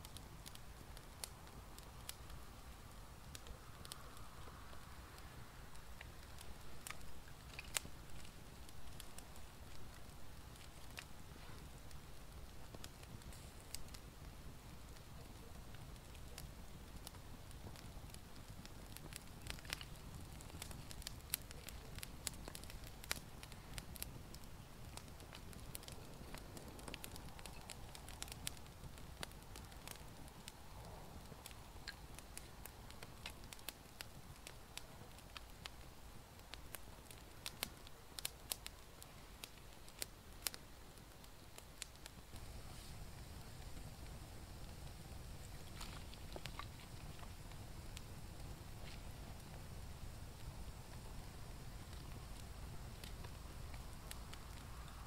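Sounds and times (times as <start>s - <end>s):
campfire crackling: 0.0s - 55.0s
low steady background noise: 0.0s - 55.0s.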